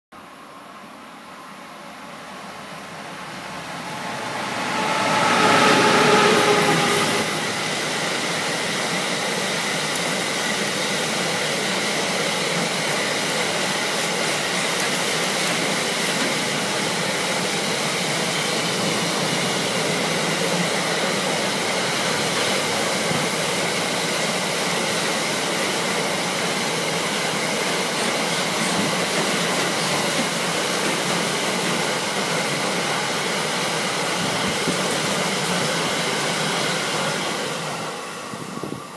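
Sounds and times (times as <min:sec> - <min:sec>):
electric locomotive whining: 0:00.6 - 0:38.9
train wagons rolling on rails: 0:03.2 - 0:37.5.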